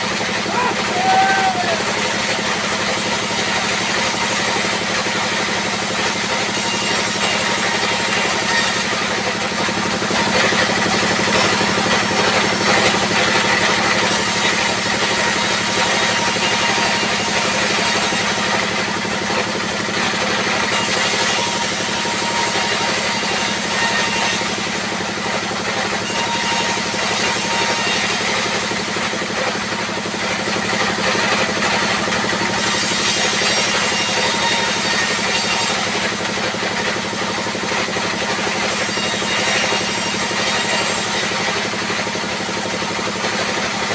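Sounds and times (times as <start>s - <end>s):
band saw ripping wooden boards: 0.2s - 43.9s.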